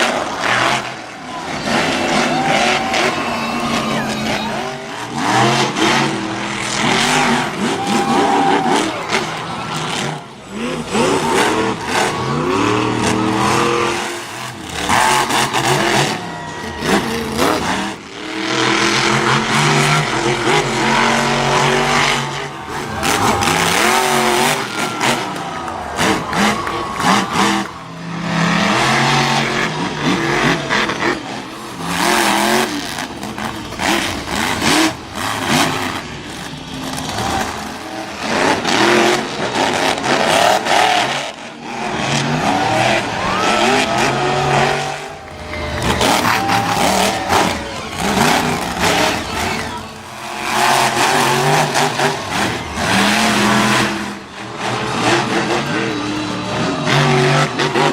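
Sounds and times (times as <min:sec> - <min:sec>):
monster truck engines revving: 0:00.0 - 0:57.9.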